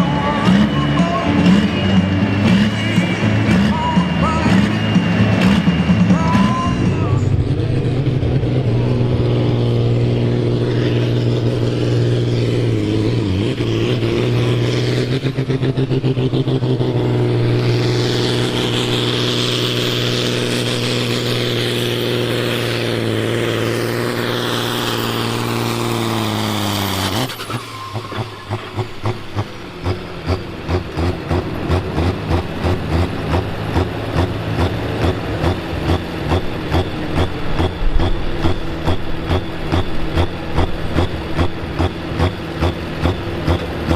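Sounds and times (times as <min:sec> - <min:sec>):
tractor diesel engine under load: 0:00.0 - 0:43.9.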